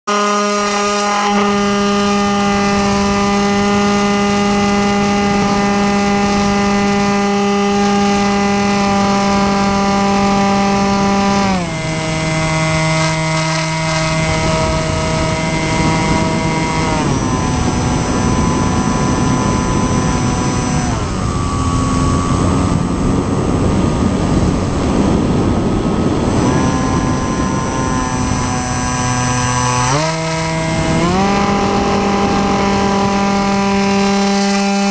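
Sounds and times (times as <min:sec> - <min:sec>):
electric motor and propeller whine: 0:00.1 - 0:34.9.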